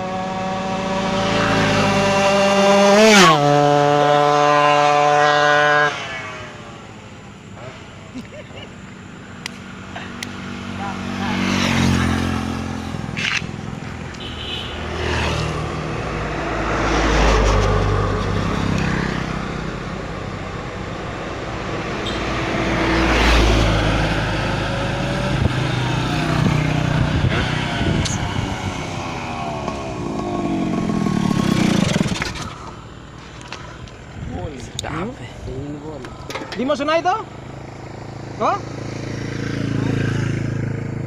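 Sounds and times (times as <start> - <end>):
motorcycle engine revving past: 0.0 - 8.0, 9.6 - 19.9, 22.0 - 33.8, 36.6 - 41.0.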